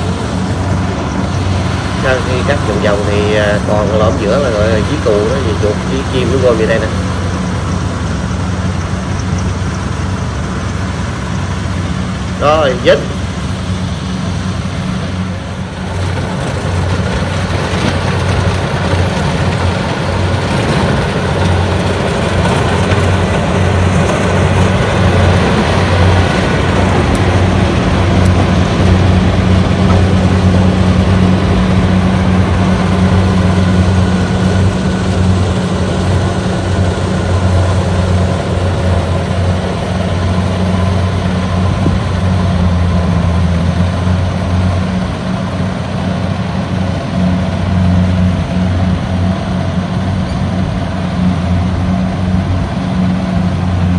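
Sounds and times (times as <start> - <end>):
combine harvester running: 0.0 - 53.9.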